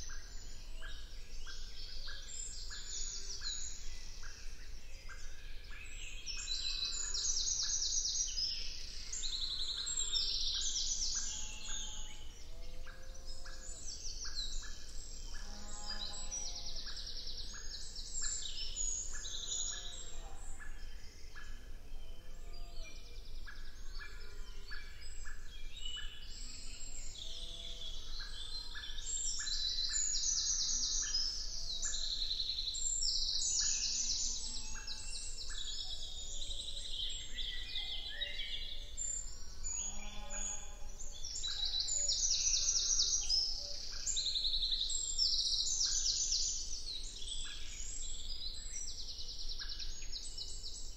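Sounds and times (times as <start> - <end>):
songbirds trilling and chirping: 0.0 - 50.9.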